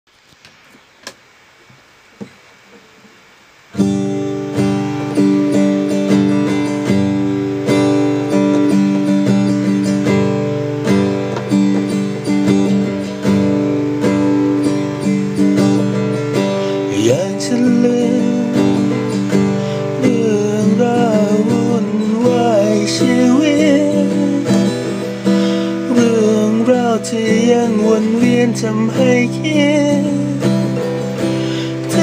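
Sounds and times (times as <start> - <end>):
acoustic guitar chords: 2.1 - 32.0.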